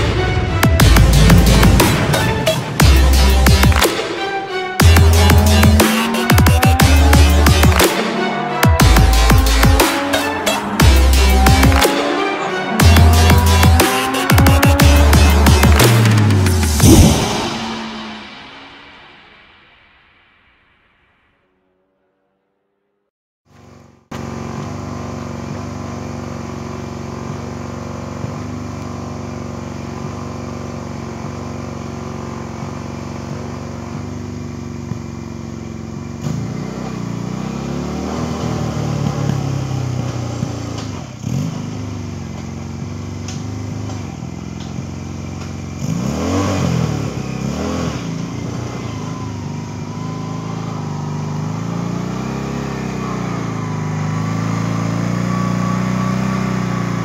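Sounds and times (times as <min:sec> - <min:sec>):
single-cylinder engine idling and revving: 0:00.0 - 0:04.2, 0:04.8 - 0:18.7, 0:23.5 - 0:57.0.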